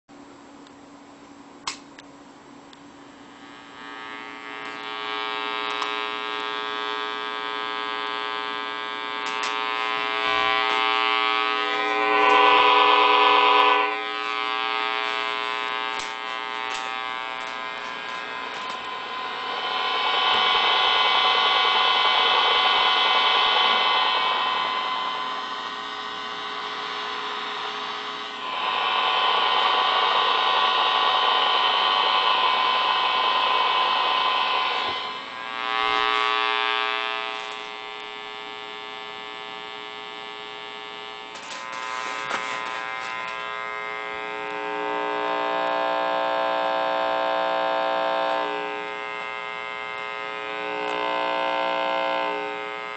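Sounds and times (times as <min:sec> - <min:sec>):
emf reader buzzing: 0:03.4 - 0:52.9.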